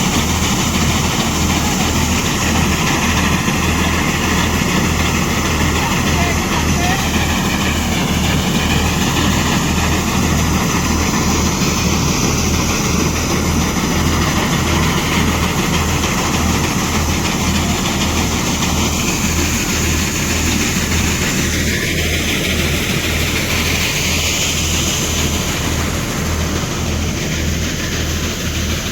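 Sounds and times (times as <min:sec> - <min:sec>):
low rhythmic throb: 0:00.0 - 0:28.9
thresher mechanical clatter: 0:00.0 - 0:28.9.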